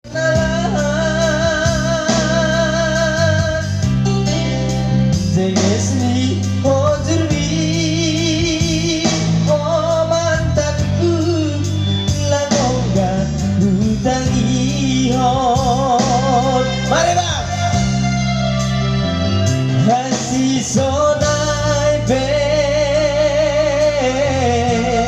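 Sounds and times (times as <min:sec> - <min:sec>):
steady bass: 0:00.0 - 0:25.0.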